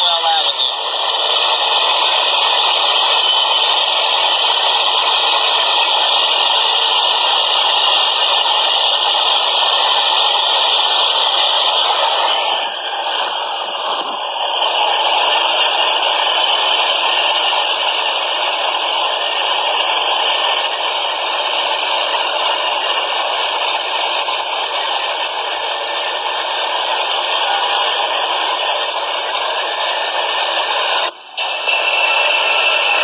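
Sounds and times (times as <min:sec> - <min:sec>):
faint high whine: 0:00.0 - 0:33.0
subway train rattling: 0:00.0 - 0:33.0.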